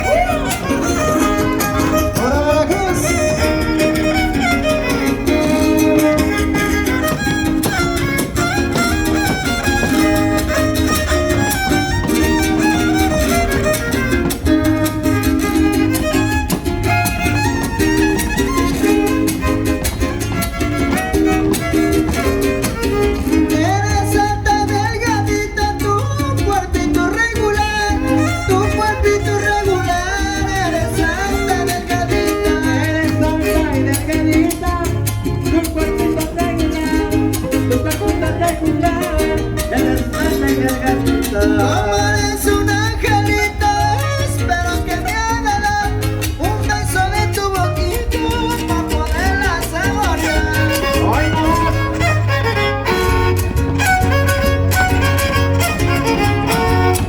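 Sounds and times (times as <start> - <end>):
strummed guitars: 0.0 - 57.0
violin melody: 0.0 - 57.0.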